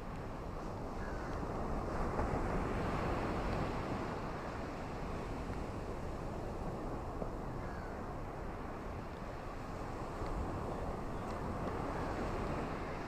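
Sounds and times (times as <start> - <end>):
ocean waves washing on beach: 0.0 - 13.0.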